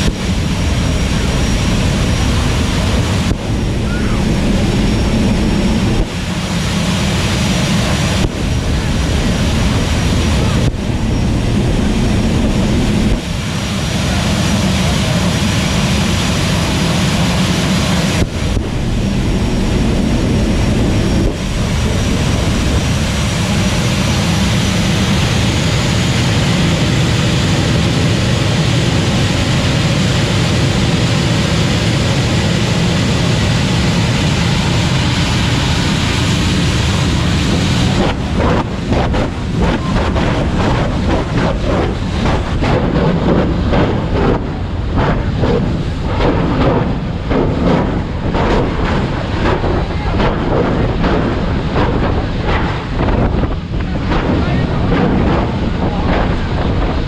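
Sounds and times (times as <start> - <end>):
jet engines roaring with turbine whine: 0.0 - 57.0.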